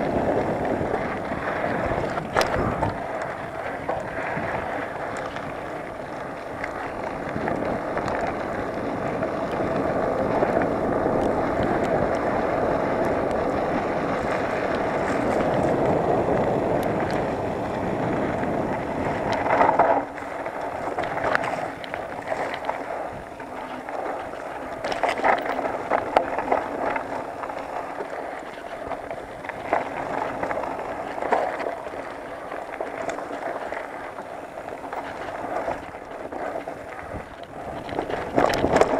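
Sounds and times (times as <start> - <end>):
bike clattering: 0.0 - 38.9
bike tyre noise: 0.0 - 38.9
wind on microphone: 0.0 - 38.9.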